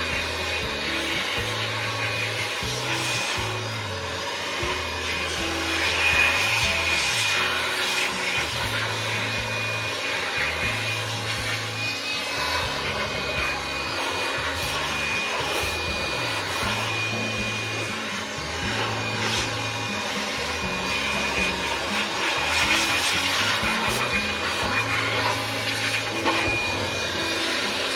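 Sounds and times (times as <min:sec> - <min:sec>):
air blower hissing: 0:00.0 - 0:27.9
background music with bass: 0:00.0 - 0:27.9.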